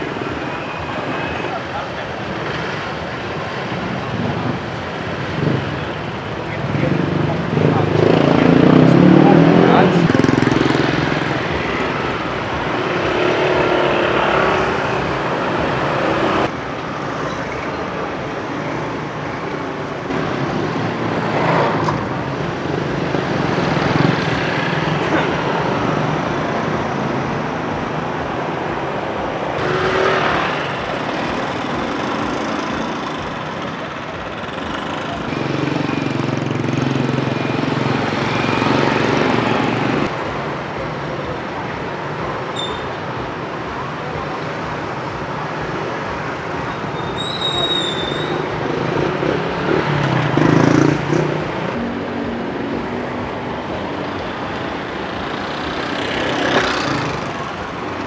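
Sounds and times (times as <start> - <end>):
motorbikes and cars humming: 0.0 - 58.0
vehicles passing close by: 0.0 - 58.0.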